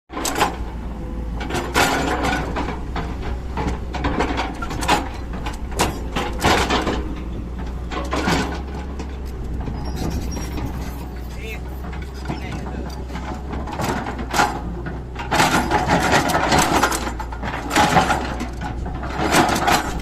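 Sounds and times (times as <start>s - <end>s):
excavator diesel engine humming: 0.1s - 20.0s.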